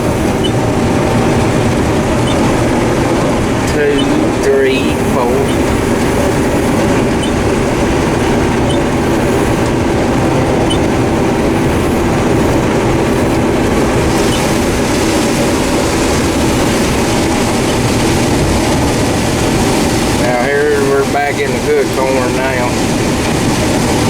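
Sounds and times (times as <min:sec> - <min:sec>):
combine harvester drone: 0:00.0 - 0:24.0.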